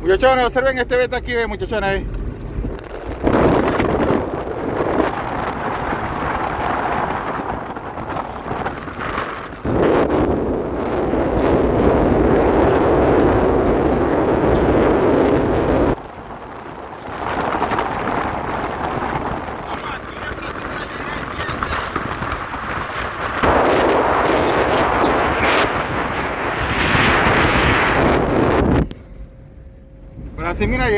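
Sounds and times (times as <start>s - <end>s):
vehicle rumble on dirt road: 0.0s - 30.9s.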